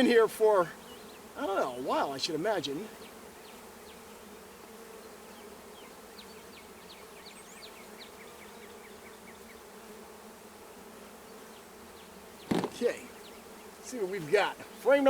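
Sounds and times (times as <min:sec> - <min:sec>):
bee colony buzzing: 0:00.0 - 0:15.0.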